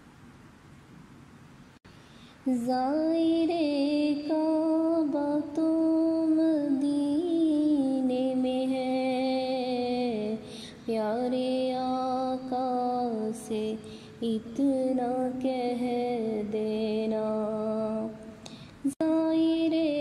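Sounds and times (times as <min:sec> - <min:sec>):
woman singing devotional song: 0:02.2 - 0:20.0.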